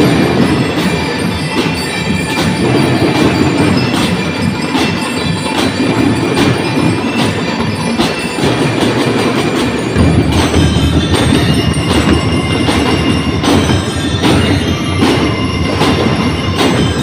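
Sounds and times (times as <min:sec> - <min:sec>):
bell lyre notes ringing: 0:00.0 - 0:17.0
snare drums: 0:00.0 - 0:17.0.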